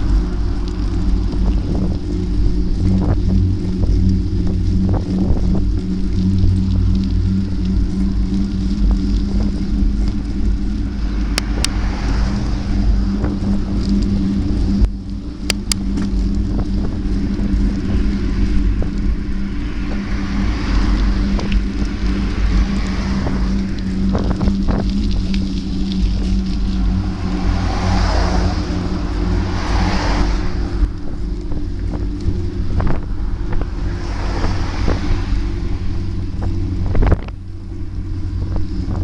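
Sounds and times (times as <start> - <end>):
continuous low riding hum: 0.0 - 39.0
wind buffeting microphone: 0.0 - 39.0.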